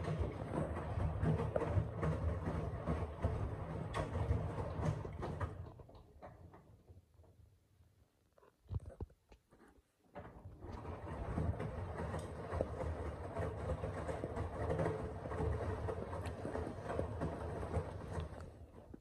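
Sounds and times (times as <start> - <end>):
washing machine drum rumbling: 0.0 - 7.4, 10.1 - 19.0.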